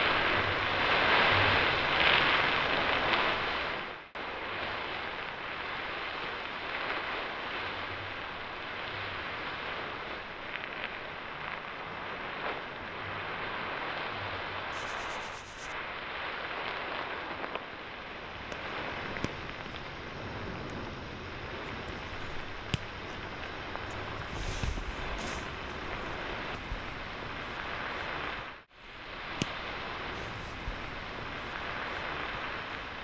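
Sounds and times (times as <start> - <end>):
steady hiss: 4.2 - 33.0.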